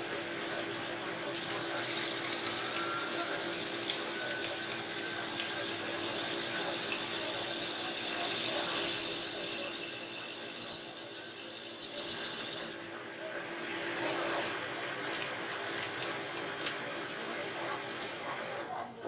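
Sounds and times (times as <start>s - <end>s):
power tool whining: 0.0s - 17.0s.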